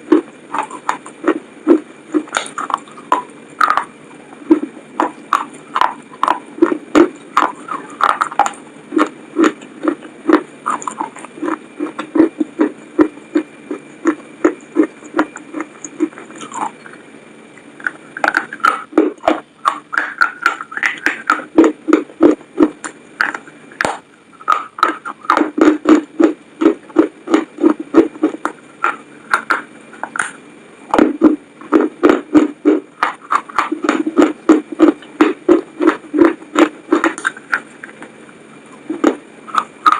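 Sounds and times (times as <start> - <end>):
chewing crunchy fries: 0.0 - 39.9.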